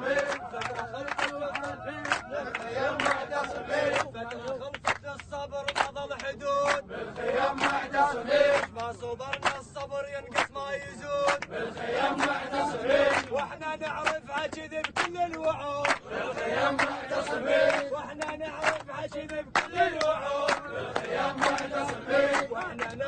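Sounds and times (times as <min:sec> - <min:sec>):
crowd chanting in unison: 0:00.0 - 0:23.0
hand claps: 0:00.1 - 0:23.0.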